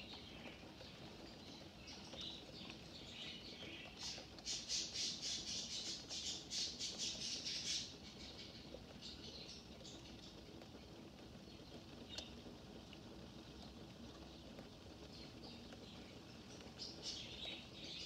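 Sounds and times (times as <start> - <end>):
faint steady rain: 0.0 - 18.0.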